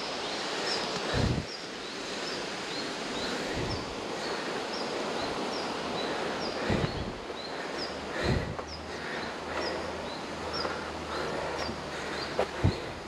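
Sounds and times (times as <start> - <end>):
steady rushing background: 0.0 - 13.0.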